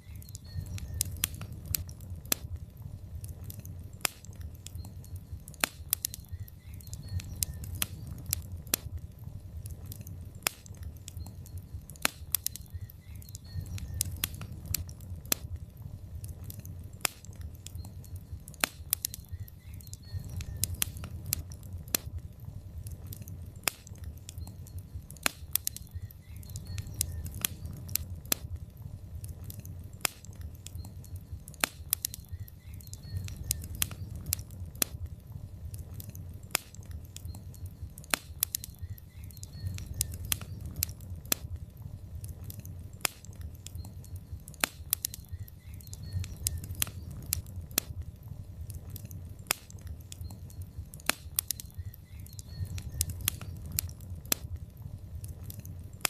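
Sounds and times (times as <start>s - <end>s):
logs crackling in fireplace: 0.0s - 56.0s
low steady rumble: 0.0s - 56.0s.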